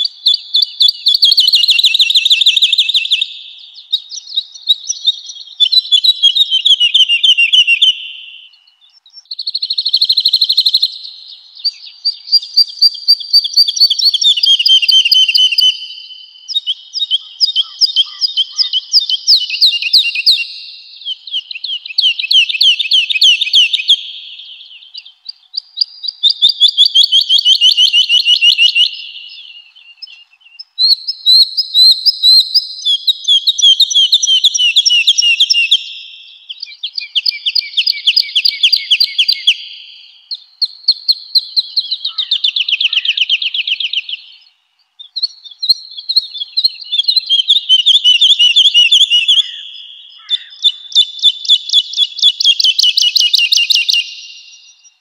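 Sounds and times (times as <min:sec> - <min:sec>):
bird singing trills: 0:00.0 - 0:55.0.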